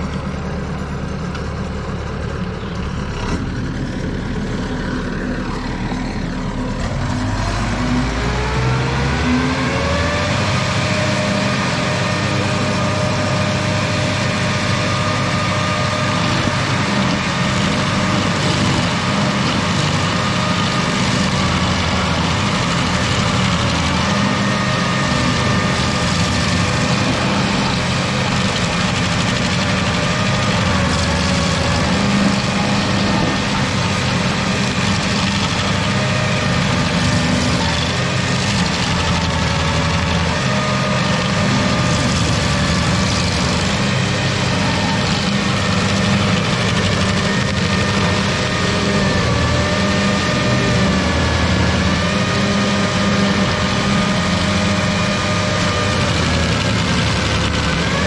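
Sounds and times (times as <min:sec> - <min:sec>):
stump grinder grinding: 0:00.0 - 0:58.0.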